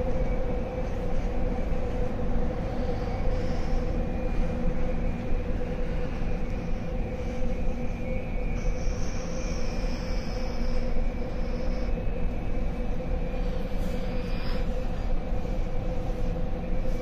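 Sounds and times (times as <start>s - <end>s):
faint high whine: 0.0s - 17.0s
subway station rumbling hum: 0.0s - 17.0s.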